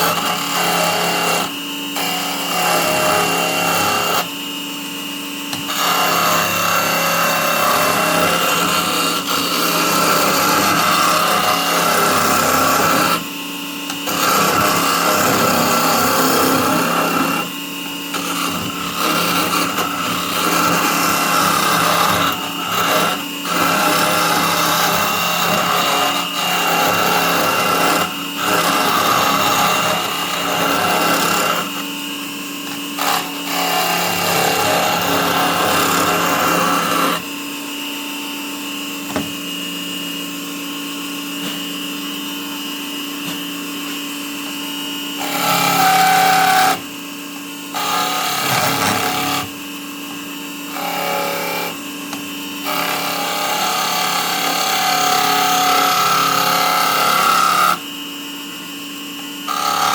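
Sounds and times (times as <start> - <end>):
tool scraping spinning wood: 0.0 - 38.1, 43.1 - 47.0, 47.6 - 57.9, 59.4 - 59.9
lathe motor hum and whine: 0.0 - 59.9.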